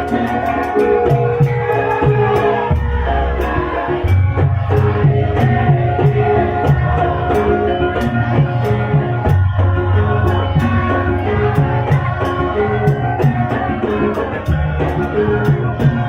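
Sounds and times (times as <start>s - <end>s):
drums keeping steady beat: 0.0s - 16.0s
sustained metallic gamelan tones: 0.0s - 16.0s.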